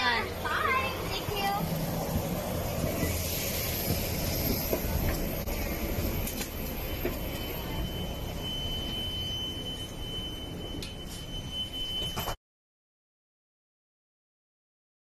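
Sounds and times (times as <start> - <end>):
airliner machinery rumble and hiss: 0.0 - 12.4.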